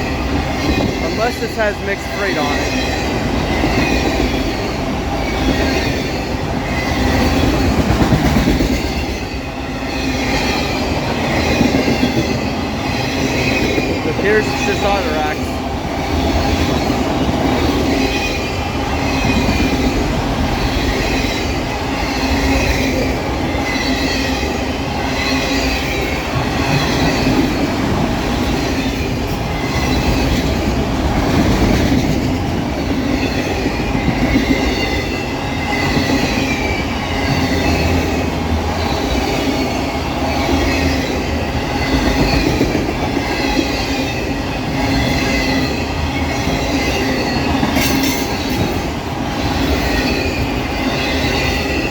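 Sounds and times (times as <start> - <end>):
steel wheels rumbling on rail: 0.0 - 51.9.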